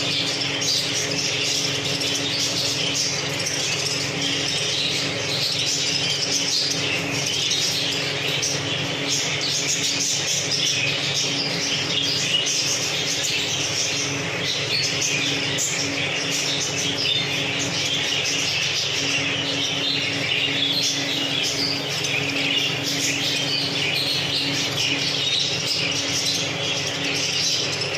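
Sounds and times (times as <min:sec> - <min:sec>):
budgerigars chattering and chirping: 0:00.0 - 0:27.9
steady low hum: 0:00.0 - 0:27.9.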